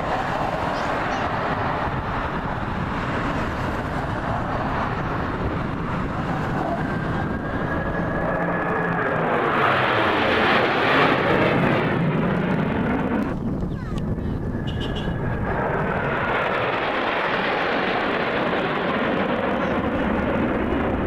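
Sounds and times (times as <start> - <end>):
airplane engine passing: 0.0 - 21.0.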